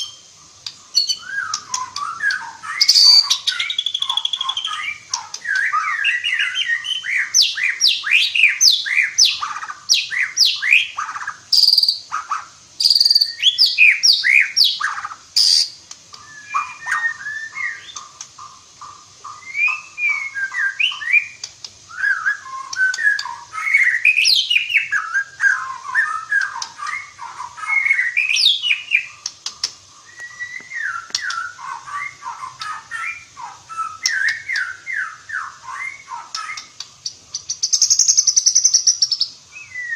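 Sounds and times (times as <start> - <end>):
songbird singing whistled phrases: 0.0 - 39.9.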